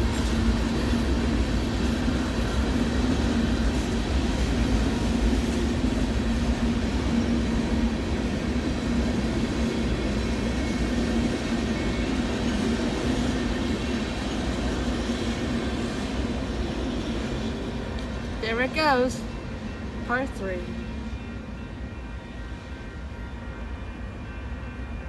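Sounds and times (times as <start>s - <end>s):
train rumbling over rails: 0.0s - 25.0s.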